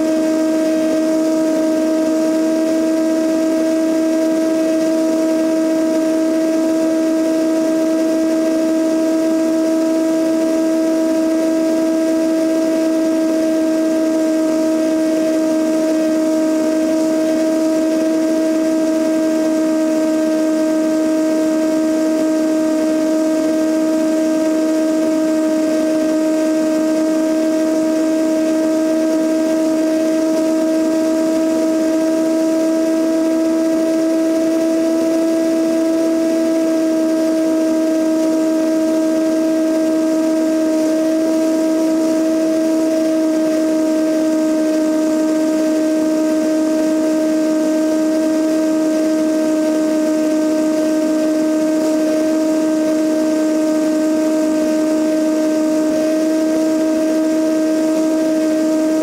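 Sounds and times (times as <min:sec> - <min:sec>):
airplane engine droning: 0:00.0 - 0:59.0.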